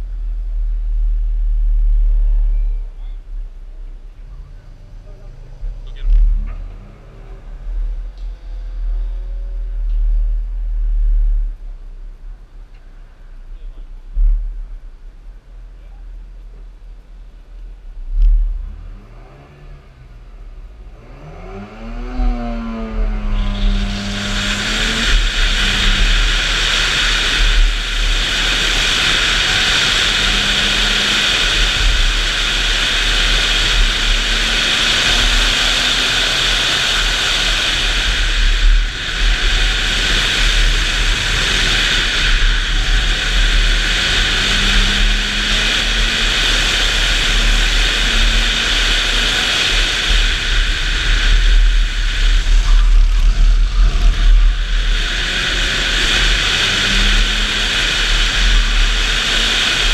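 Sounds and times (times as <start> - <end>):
car engine revving: 0.0 - 59.9
wind noise on microphone: 5.7 - 19.4, 21.7 - 59.9.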